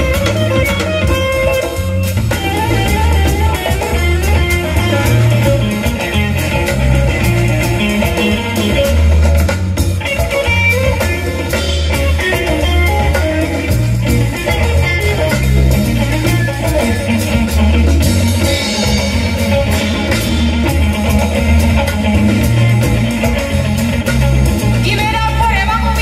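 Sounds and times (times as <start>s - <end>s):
bass guitar: 0.0s - 26.0s
drums with steady beat: 0.0s - 26.0s
electric guitar lead lines: 0.0s - 26.0s.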